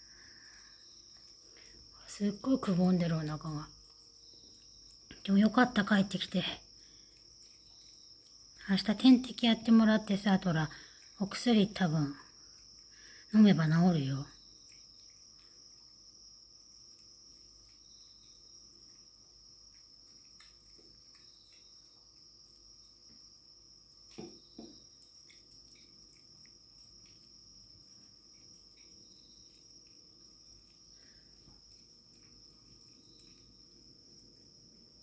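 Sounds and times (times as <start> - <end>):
cat chewing and licking food: 0.0 - 35.0
crickets trilling: 0.0 - 35.0.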